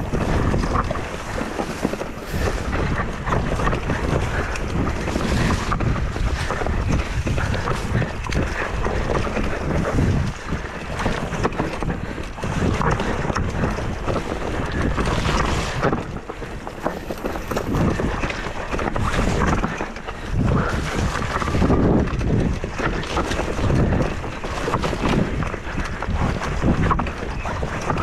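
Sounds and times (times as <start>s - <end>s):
bike knocks and rattles: 0.0s - 28.0s
bike tyres rumbling on dirt: 0.0s - 28.0s
wind buffeting microphone: 0.0s - 28.0s.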